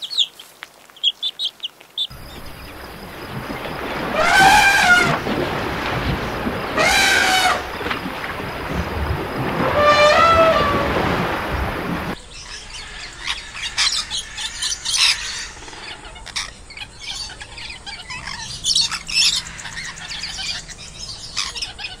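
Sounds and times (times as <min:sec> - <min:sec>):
birds chirping and squawking: 0:02.0 - 0:22.0.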